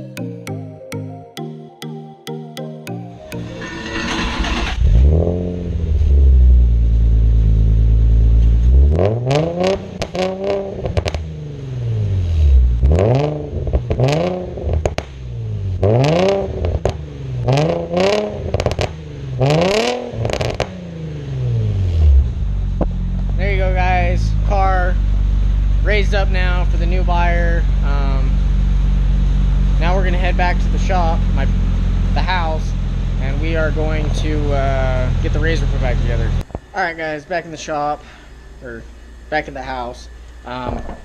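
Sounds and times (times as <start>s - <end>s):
car engine revving: 3.5s - 40.9s.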